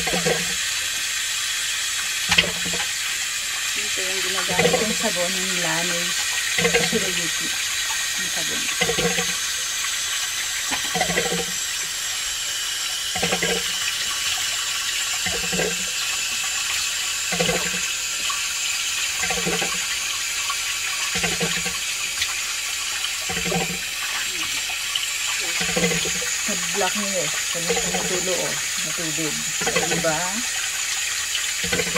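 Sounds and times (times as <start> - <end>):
person washing face: 0.0 - 31.9
tap water running into sink: 0.0 - 31.9.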